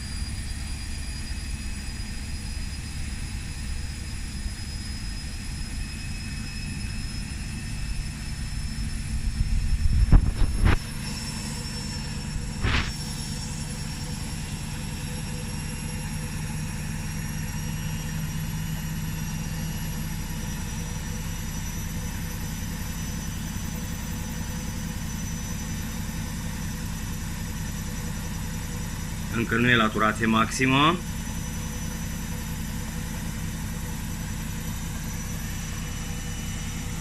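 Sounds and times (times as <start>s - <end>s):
washing machine spinning: 0.0s - 29.3s, 31.0s - 37.0s.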